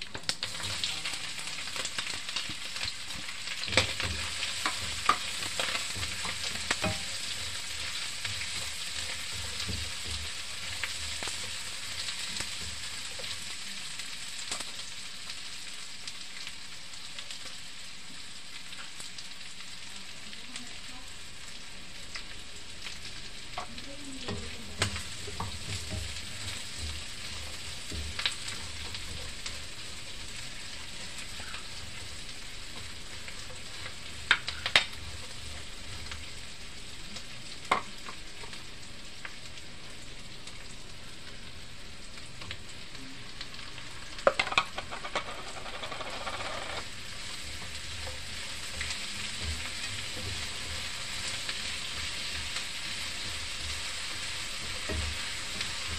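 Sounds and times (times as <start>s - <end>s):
food sizzling in a frying pan: 0.0s - 55.9s.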